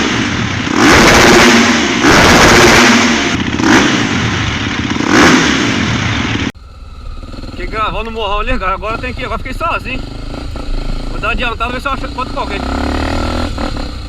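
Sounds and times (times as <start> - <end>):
motorcycle engine revving hard: 0.0 - 14.0.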